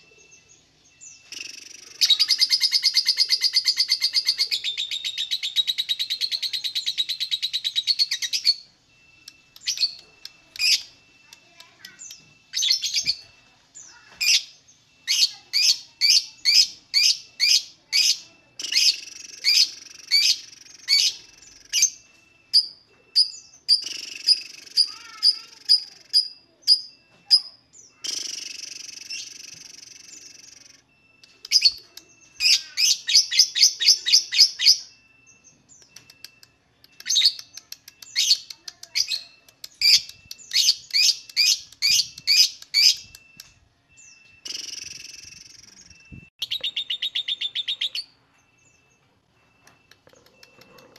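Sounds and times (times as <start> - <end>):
lovebird chirping: 0.0 - 50.9.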